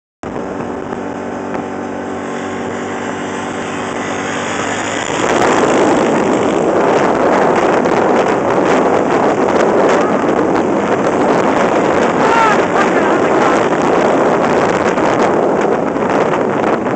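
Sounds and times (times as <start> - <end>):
wind on microphone: 0.2 - 16.9
atv engine running: 0.3 - 16.9.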